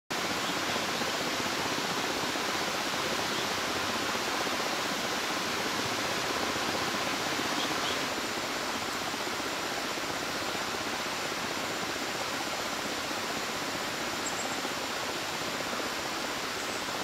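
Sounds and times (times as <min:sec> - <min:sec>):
river water rushing: 0:00.1 - 0:17.0.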